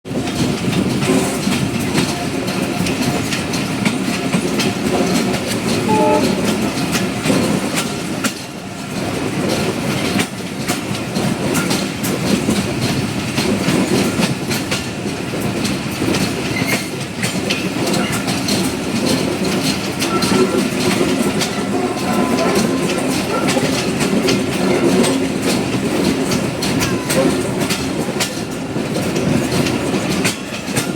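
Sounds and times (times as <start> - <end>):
passenger train rumbling: 0.1 - 30.9
wheels clicking over rail joints: 0.1 - 30.9.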